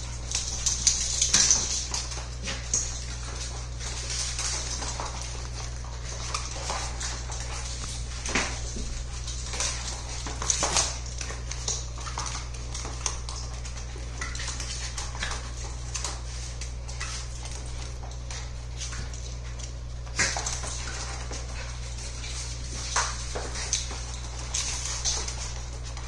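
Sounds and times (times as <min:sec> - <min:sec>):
dogs play-wrestling: 0:00.0 - 0:26.0
paws and claws clicking on floor: 0:00.0 - 0:26.0
steady low hum: 0:00.0 - 0:26.0.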